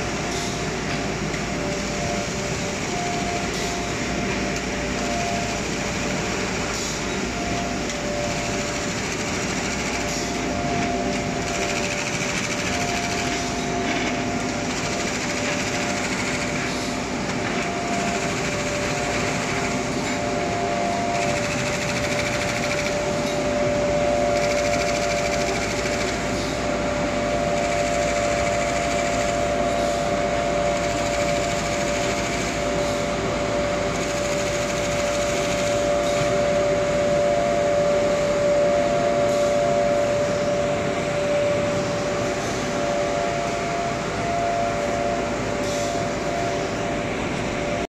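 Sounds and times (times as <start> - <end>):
motor whine: 0.0 - 47.8
machine running noise: 0.0 - 47.9.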